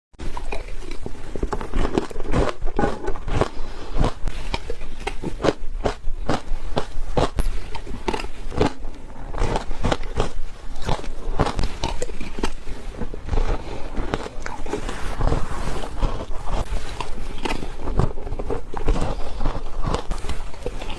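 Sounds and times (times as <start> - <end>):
ice crunching while chewed: 0.2 - 20.9.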